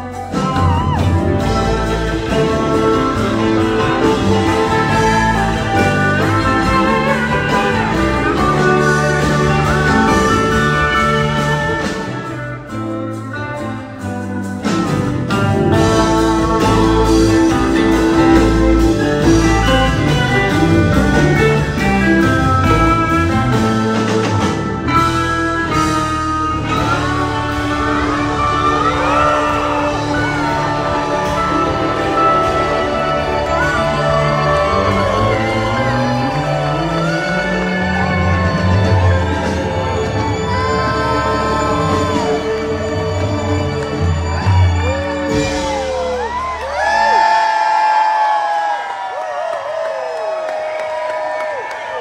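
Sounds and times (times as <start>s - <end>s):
live band playing: 0.0s - 49.0s.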